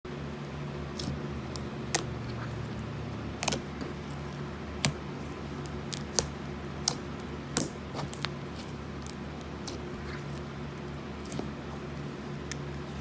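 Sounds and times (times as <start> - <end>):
steady low hum: 0.1 - 13.0
slime clicking and popping: 1.0 - 13.0.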